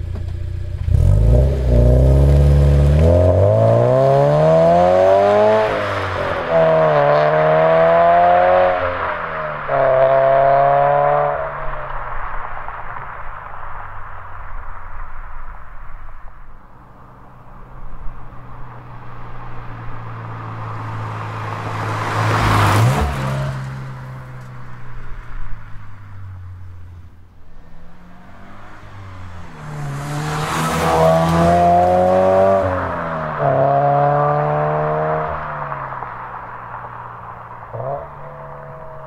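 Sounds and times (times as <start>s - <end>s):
car exhaust accelerating: 0.0s - 39.0s
car driving past: 0.6s - 16.1s, 17.1s - 39.0s.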